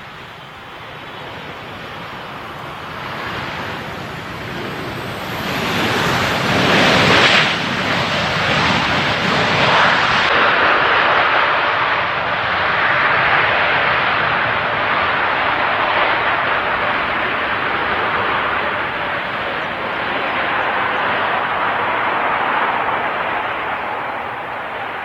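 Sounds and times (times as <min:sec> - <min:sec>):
jet airliner engine noise: 0:00.0 - 0:25.0.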